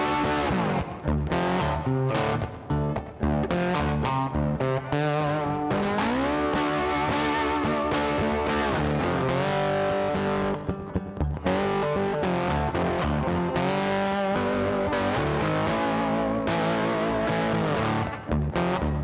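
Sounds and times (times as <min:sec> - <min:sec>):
rock music with electric guitar: 0:00.0 - 0:19.0.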